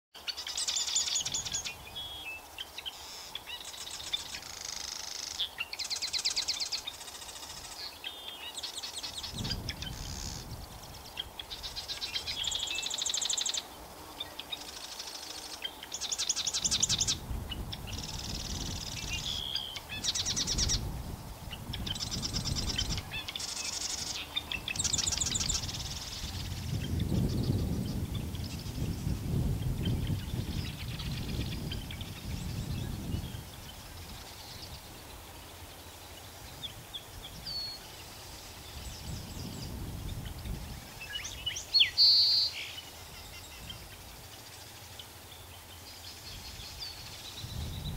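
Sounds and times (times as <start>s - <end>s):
birds chirping and trilling: 0.2s - 47.9s
low rumble of wind: 5.4s - 47.9s.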